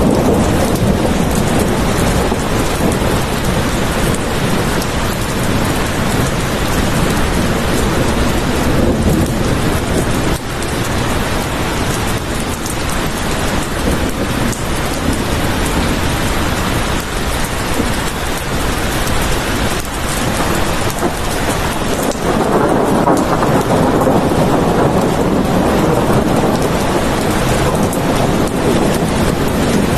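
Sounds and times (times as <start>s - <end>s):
heavy rain hissing: 0.0s - 29.9s
low thunder rumble: 0.0s - 29.9s.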